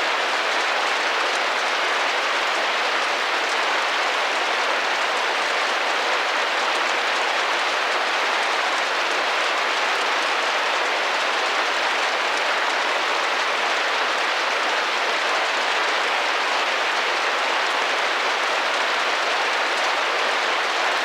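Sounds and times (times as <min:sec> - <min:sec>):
rain pattering on window: 0:00.0 - 0:21.0.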